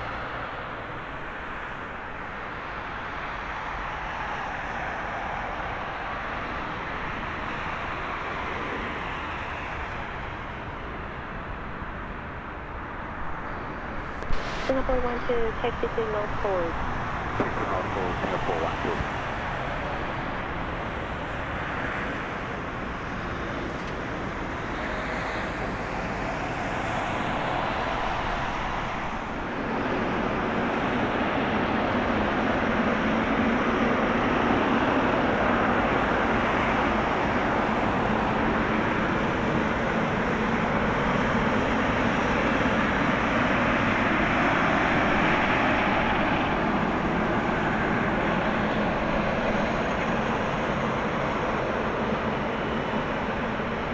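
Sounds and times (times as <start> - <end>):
jet engines rumbling and hissing: 0.0 - 53.9.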